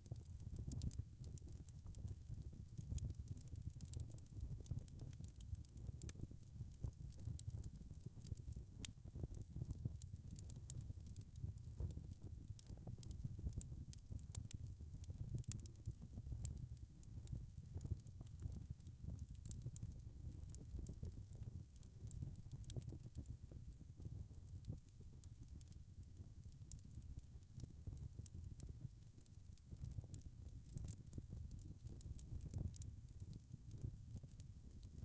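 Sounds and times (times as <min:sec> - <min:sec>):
wood fire crackling: 0:00.1 - 0:35.0.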